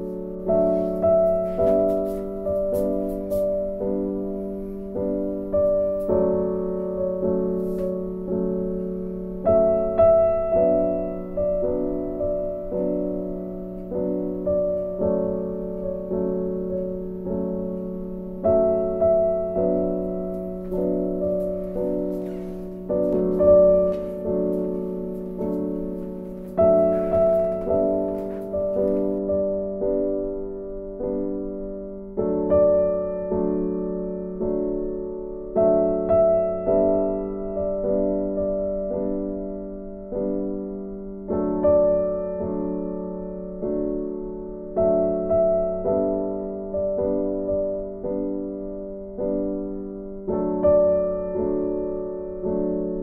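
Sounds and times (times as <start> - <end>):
gentle piano melody: 0.0 - 53.0.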